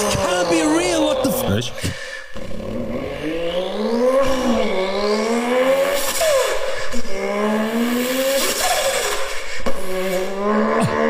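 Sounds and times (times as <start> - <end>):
man imitating car engine revving: 0.0 - 11.0.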